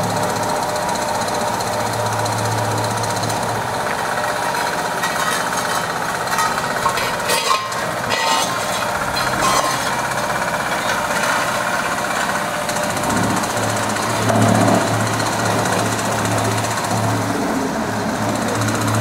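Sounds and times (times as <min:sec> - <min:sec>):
road-repair machinery rattling: 0:00.0 - 0:19.0.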